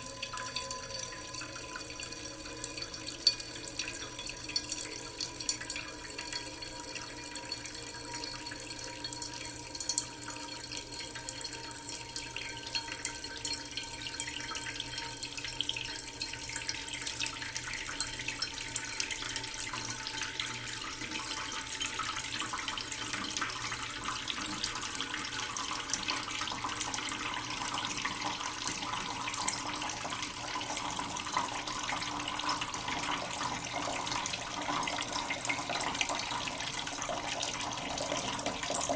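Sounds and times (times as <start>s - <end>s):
tap water filling a pot: 0.0s - 38.9s.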